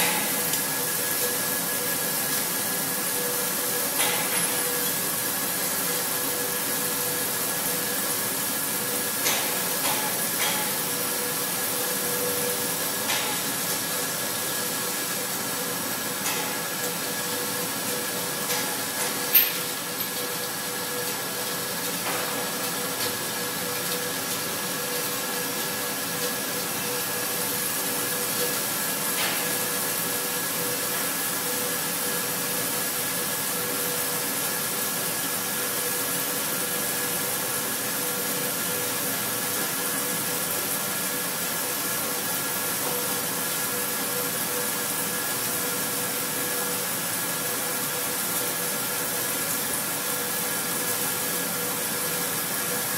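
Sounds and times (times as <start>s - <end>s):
coolant hiss: 0.0s - 52.9s.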